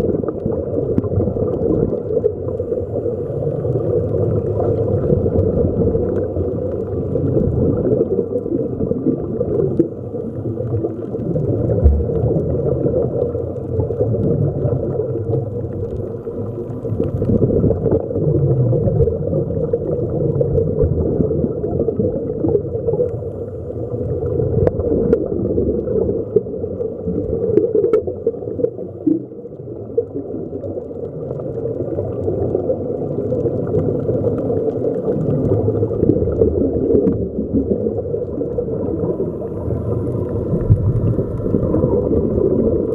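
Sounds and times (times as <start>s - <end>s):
air bubbling: 0.0s - 23.2s, 23.8s - 42.9s
muffled underwater rumble: 0.0s - 42.9s.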